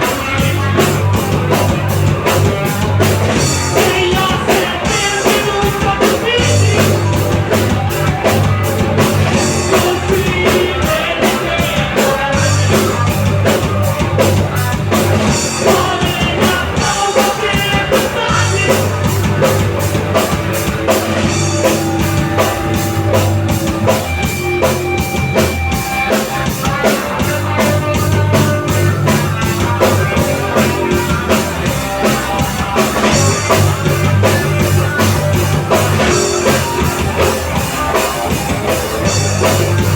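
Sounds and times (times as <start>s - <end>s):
bass guitar long low notes: 0.0s - 39.9s
drum kit beating driving rhythm: 0.0s - 39.9s
electric guitars: 0.0s - 39.9s.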